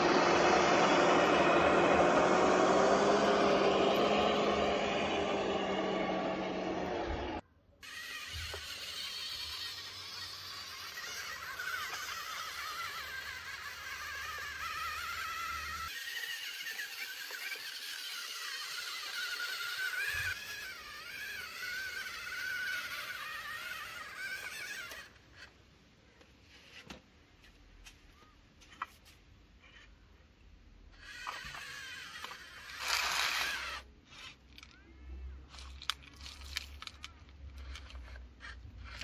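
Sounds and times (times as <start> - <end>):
small electric motors whining: 0.0 - 25.6, 30.8 - 39.0.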